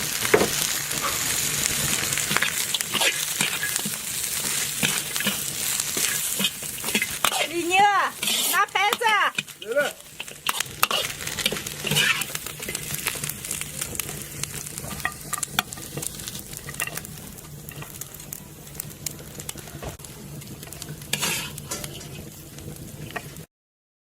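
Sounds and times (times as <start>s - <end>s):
oil sizzling: 0.0s - 23.5s
metal spatula scraping a wok: 0.4s - 18.1s, 20.5s - 23.4s.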